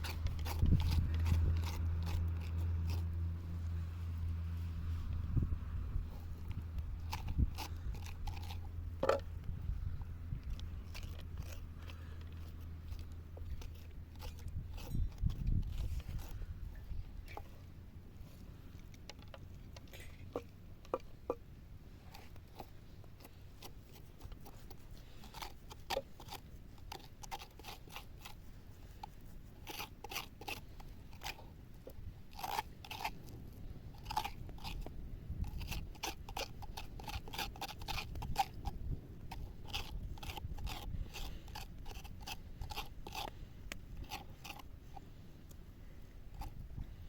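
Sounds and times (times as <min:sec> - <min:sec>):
crunching and cutting raw food: 0:00.0 - 0:47.0.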